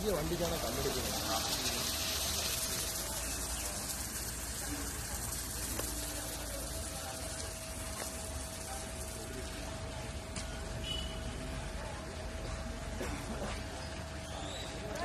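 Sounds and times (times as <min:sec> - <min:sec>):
crowd talking indistinctly: 0:00.0 - 0:15.0.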